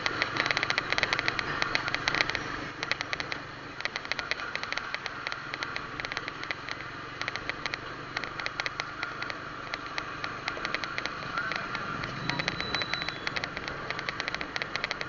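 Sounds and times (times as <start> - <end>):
rapid clicking bursts: 0.0 - 15.0
vehicle engines humming: 0.0 - 15.0.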